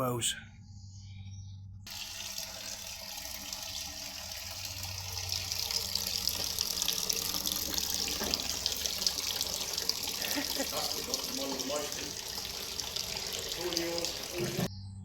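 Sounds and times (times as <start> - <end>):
water pouring: 1.9 - 14.7.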